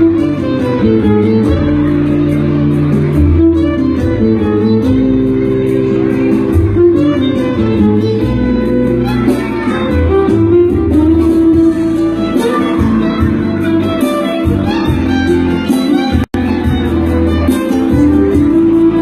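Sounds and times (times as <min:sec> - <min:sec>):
bass line: 0:00.0 - 0:19.0
plucked guitar: 0:00.0 - 0:19.0.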